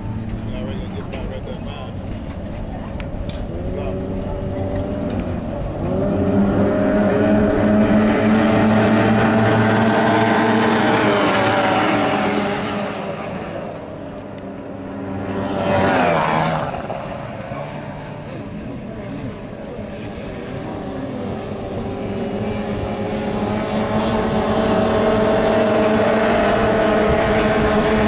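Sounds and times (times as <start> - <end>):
racing outboard motors: 0.0 - 28.0.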